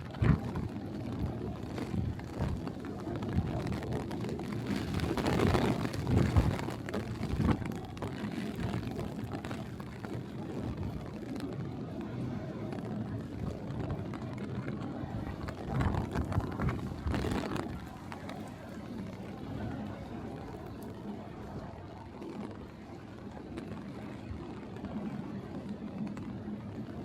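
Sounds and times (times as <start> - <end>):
rain: 0.0 - 27.0
wind: 0.0 - 27.0.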